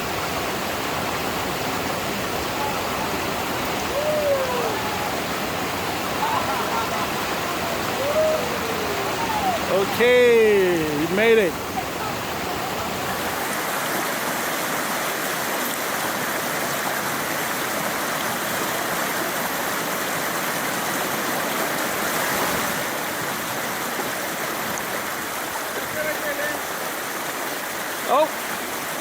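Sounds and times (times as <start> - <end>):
creek water rushing over rocks: 0.0 - 29.0.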